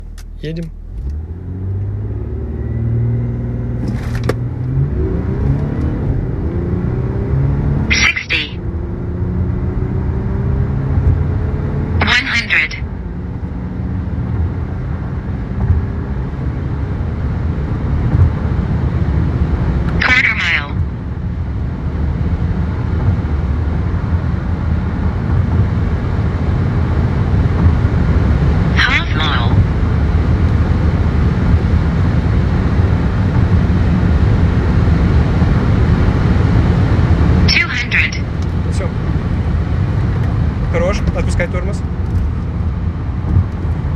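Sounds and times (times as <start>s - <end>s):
diesel engine accelerating: 0.0s - 43.9s
road noise: 0.0s - 43.9s.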